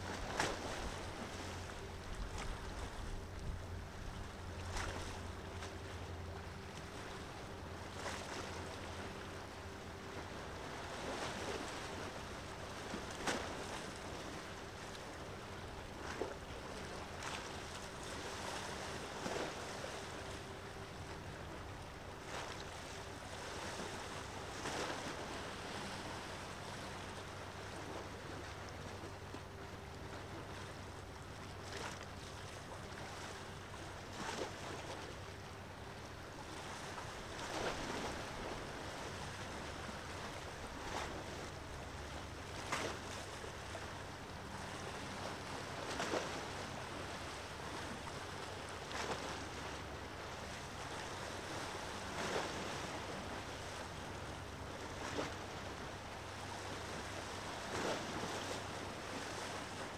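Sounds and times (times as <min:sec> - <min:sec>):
small waves washing in: 0:00.0 - 0:59.9.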